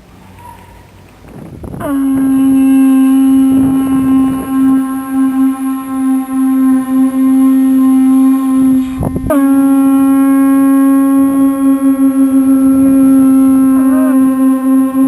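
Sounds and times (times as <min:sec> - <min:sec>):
horn steady low tone: 0:01.4 - 0:15.0.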